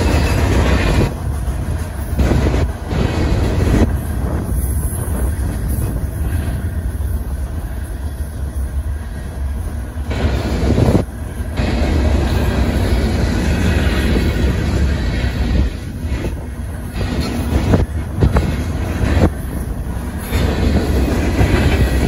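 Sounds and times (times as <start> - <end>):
train wheels rumbling on rails: 0.0 - 22.0
wheels clacking: 0.0 - 22.0.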